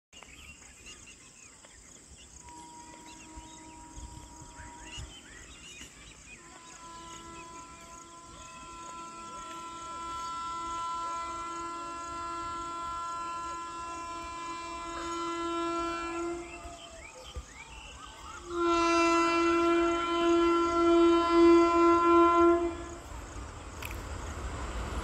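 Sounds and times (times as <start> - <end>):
birds chirping: 0.2 - 24.9
locomotive horn blasts: 2.4 - 24.0.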